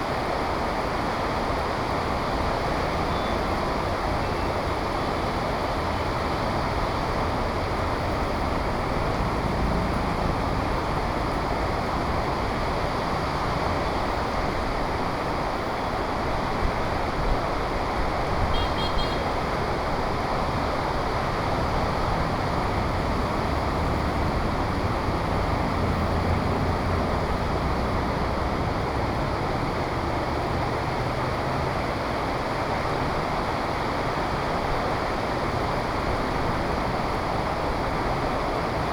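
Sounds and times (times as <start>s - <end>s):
heavy rain: 0.0s - 38.9s
traffic rumble: 0.0s - 38.9s.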